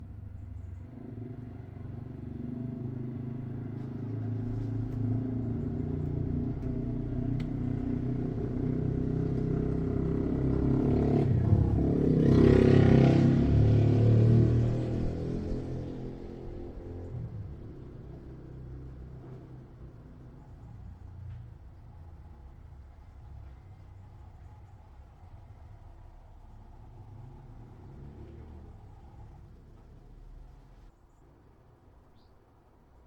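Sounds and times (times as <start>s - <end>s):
motorcycle engine passing: 0.0s - 20.8s, 21.5s - 30.9s.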